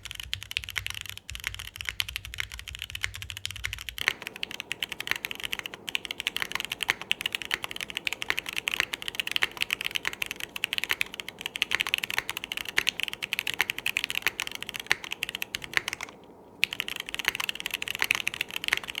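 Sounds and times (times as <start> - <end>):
mechanical keyboard typing: 0.0 - 19.0.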